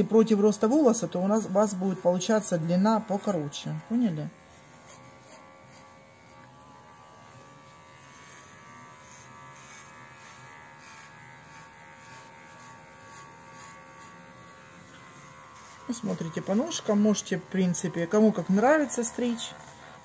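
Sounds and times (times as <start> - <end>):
pet hair trimmer humming: 0.0 - 20.0.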